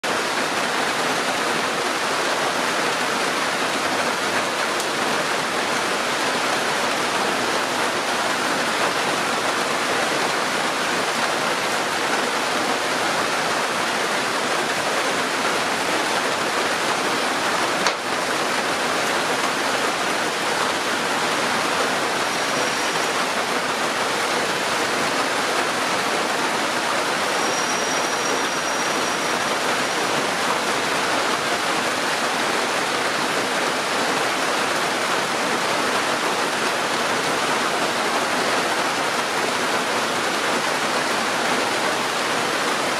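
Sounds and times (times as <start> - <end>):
heavy rain on foliage: 0.0 - 42.9.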